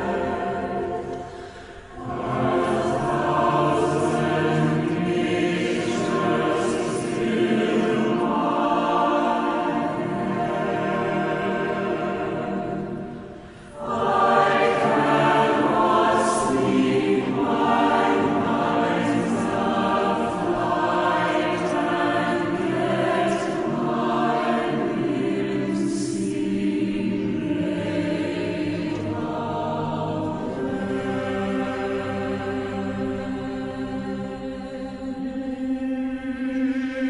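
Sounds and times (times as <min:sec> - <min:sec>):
choir singing a cappella: 0:00.0 - 0:37.0.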